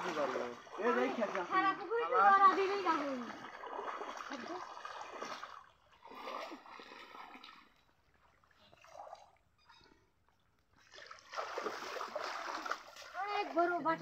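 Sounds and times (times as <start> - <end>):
shallow water splashing: 0.0 - 9.5, 10.7 - 14.0.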